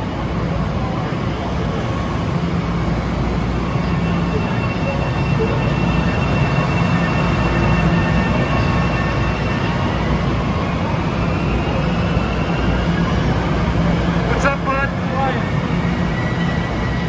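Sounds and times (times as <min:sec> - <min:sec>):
train rolling rumble: 0:00.0 - 0:17.0.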